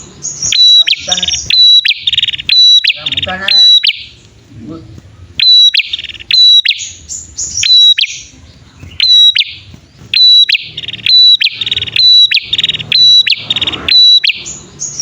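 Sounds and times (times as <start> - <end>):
fast buzzy bird trills: 0.0 - 15.0
songbirds whistling: 0.0 - 15.0.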